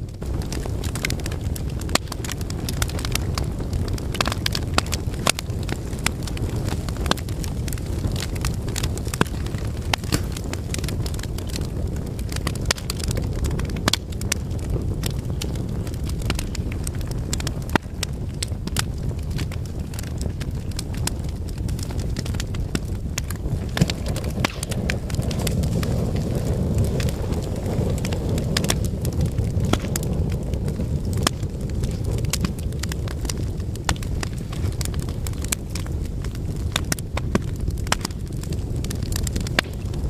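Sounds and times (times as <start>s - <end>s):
fire popping and snapping: 0.0s - 40.0s
rumble of fire flames: 0.0s - 40.0s.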